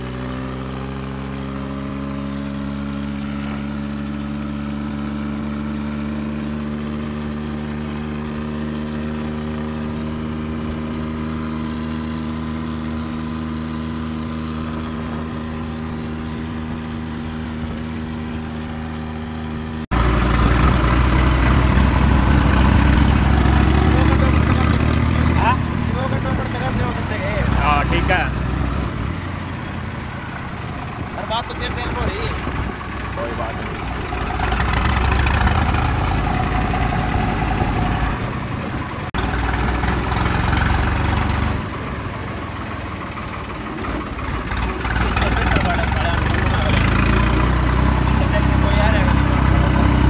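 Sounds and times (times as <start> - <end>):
road noise: 0.0 - 50.0
tractor diesel engine running: 0.0 - 50.0.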